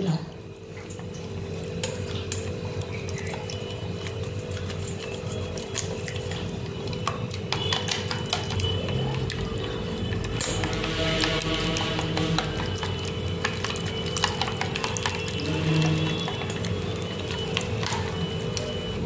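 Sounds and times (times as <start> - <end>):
steady hum: 0.0 - 19.0
whisk beating eggs in bowl: 3.0 - 19.0.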